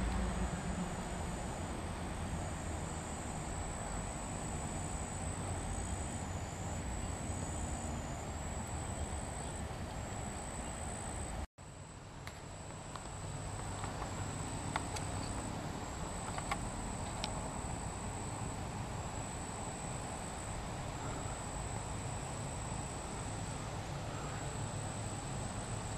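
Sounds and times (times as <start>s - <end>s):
insects trilling: 0.0s - 25.9s.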